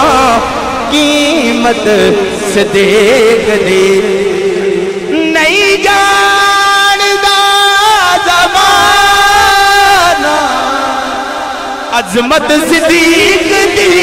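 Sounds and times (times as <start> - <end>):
man singing into microphone: 0.0 - 14.0.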